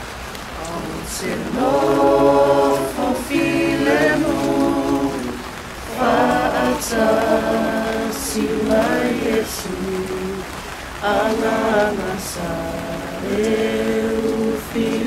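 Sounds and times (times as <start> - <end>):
group singing a hymn: 0.6 - 15.0.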